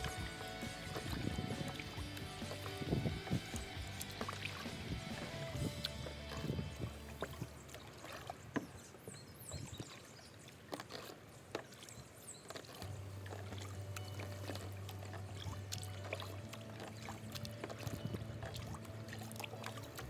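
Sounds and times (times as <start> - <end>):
paddle splashing water: 0.0 - 20.0.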